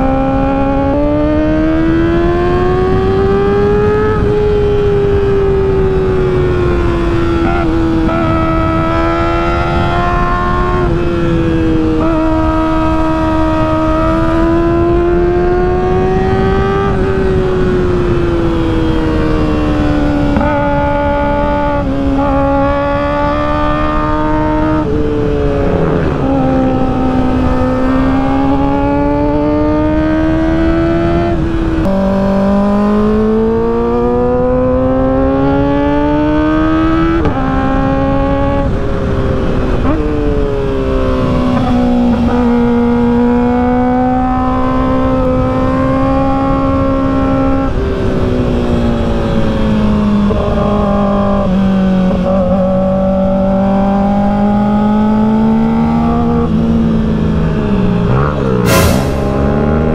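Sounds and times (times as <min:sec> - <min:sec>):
motorcycle engine accelerating: 0:00.0 - 0:59.9
rushing wind noise: 0:00.0 - 0:59.9.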